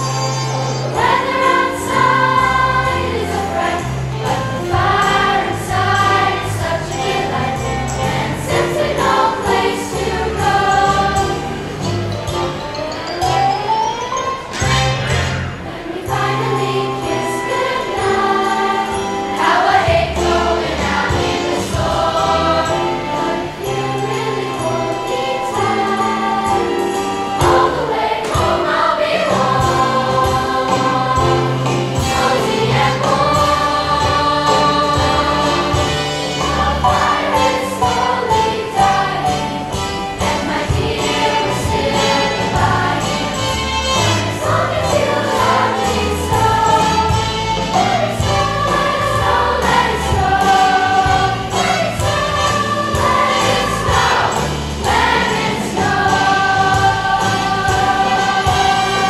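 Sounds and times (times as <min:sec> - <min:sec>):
children's choir singing: 0:00.0 - 0:12.9, 0:13.5 - 0:59.0
musical accompaniment with bass: 0:00.0 - 0:59.0.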